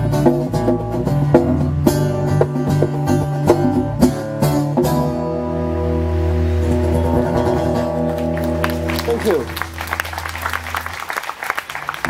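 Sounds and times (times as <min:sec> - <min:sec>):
strummed acoustic guitar: 0:00.0 - 0:09.8.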